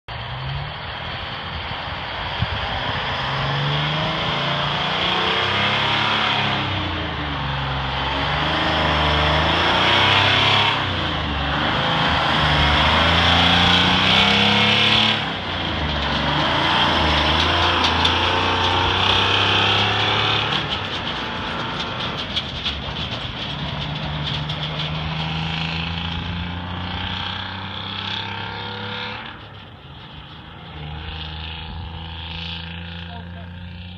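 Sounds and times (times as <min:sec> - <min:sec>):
diesel truck pulling away under load: 0:00.1 - 0:33.9.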